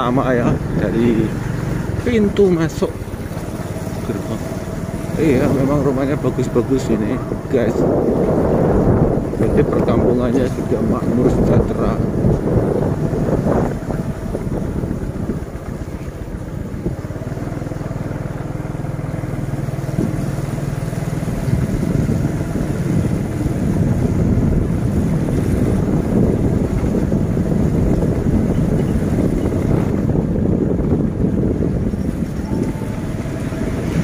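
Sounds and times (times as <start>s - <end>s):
motorcycle engine cruising: 0.0s - 34.0s
wind rumbling on microphone: 0.0s - 34.0s.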